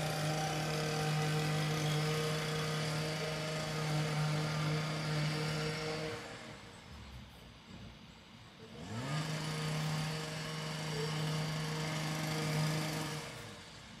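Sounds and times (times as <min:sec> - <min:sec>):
two-stroke chainsaw revving: 0:00.0 - 0:06.7, 0:08.6 - 0:14.0.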